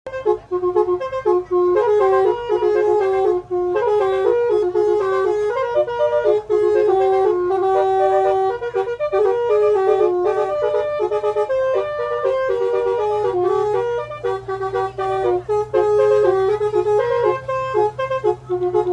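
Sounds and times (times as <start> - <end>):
bus horn playing a melody: 0.1 - 18.9.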